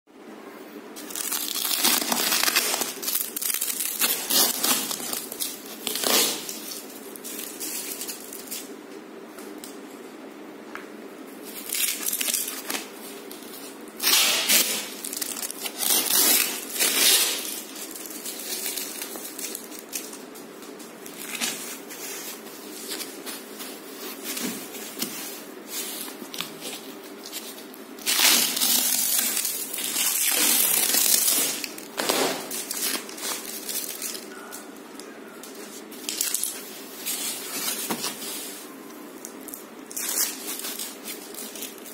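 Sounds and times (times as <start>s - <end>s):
plastic wrapping crinkling and tearing: 1.0s - 8.8s, 11.4s - 41.9s.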